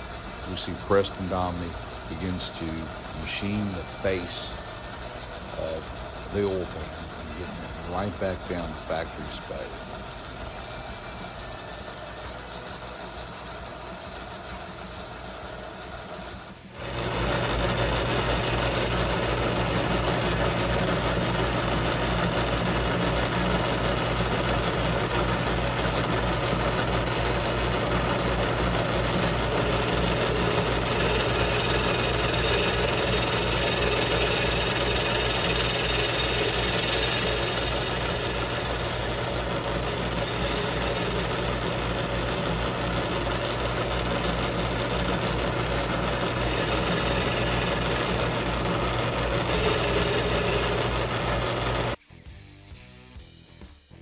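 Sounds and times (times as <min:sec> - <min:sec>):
outboard engine starting and running: 0:00.0 - 0:52.0.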